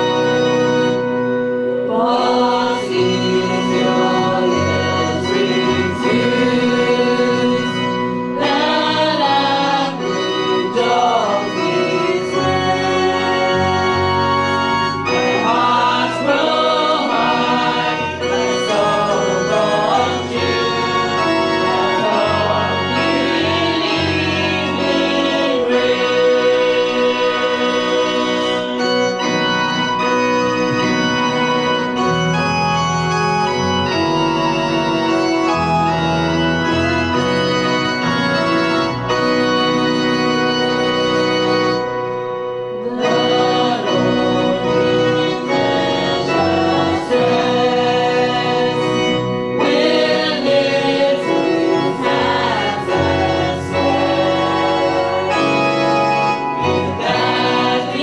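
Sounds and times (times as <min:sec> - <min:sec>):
congregation singing a hymn: 0:00.0 - 0:58.0
keyboard playing chords: 0:00.0 - 0:58.0.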